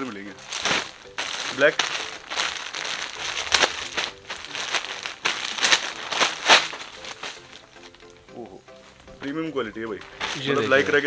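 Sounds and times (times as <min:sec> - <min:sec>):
plastic packaging crinkling: 0:00.0 - 0:08.2, 0:10.0 - 0:11.0.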